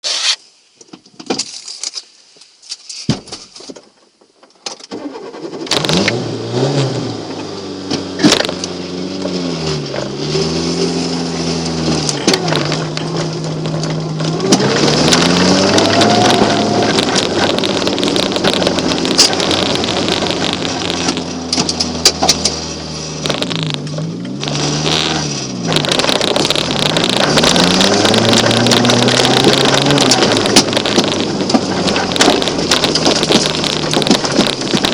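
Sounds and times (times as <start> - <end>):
car engine starting and revving: 4.9 - 34.9.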